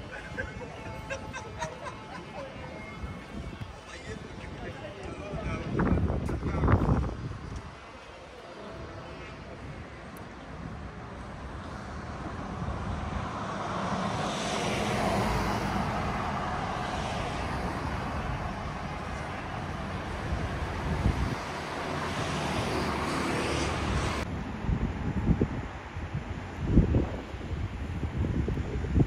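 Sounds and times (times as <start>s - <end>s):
vehicles passing on road: 0.0s - 29.0s.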